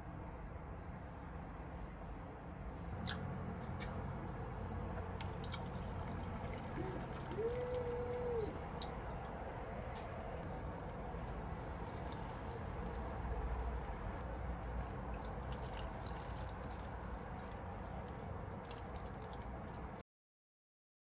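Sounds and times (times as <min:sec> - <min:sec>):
water trickling and dripping: 0:03.1 - 0:20.0.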